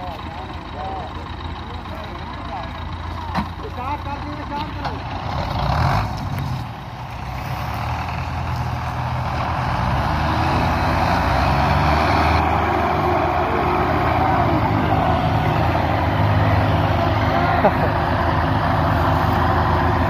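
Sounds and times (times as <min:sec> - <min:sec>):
tractor diesel engines labouring: 0:00.0 - 0:20.0.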